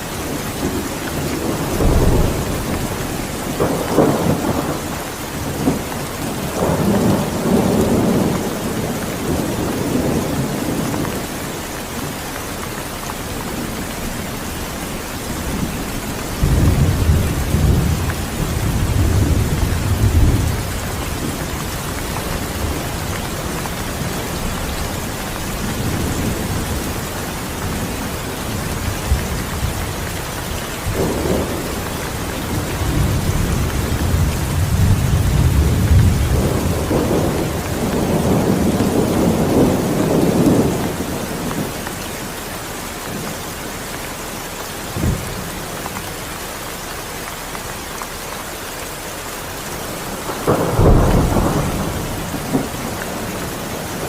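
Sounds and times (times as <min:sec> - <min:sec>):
steady rain: 0:00.0 - 0:54.0
low rumble of thunder: 0:00.2 - 0:42.0, 0:44.8 - 0:46.0, 0:49.6 - 0:54.0.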